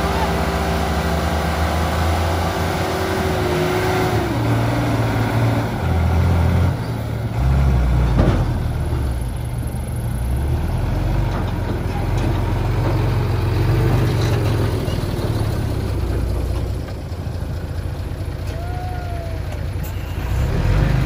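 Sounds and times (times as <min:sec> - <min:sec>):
truck diesel engine straining: 0:00.0 - 0:21.0.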